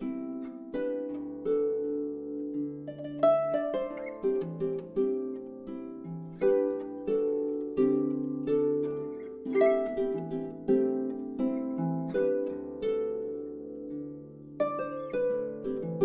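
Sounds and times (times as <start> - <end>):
plucked string notes: 0.0 - 16.0.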